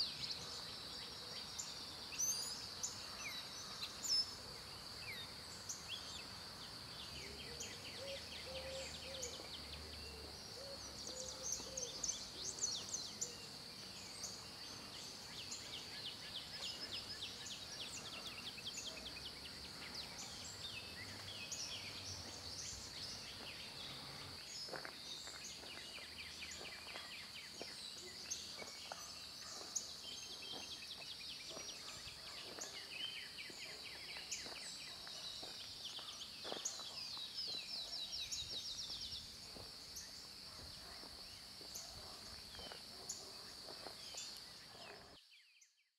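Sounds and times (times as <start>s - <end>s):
birds chirping and trilling: 0.0s - 45.6s.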